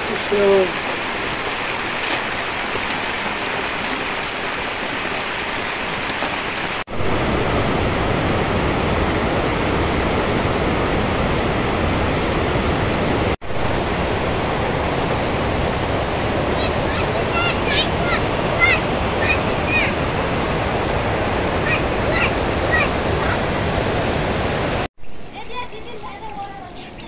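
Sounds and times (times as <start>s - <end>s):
steady rushing water: 0.0s - 24.9s.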